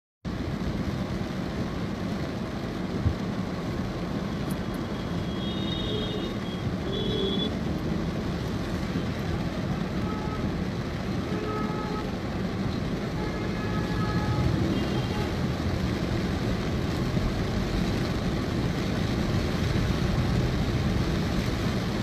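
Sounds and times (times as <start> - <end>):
traffic noise on wet road: 0.2 - 22.0.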